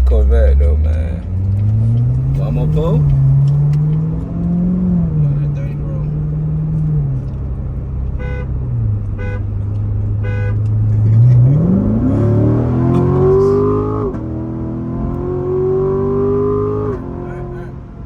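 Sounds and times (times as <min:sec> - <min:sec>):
car engine revving at full throttle: 0:00.0 - 0:18.0.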